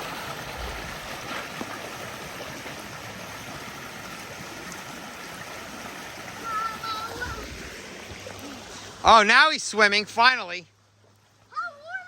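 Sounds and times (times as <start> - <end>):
floodwater rushing and gurgling: 0.0 - 12.0.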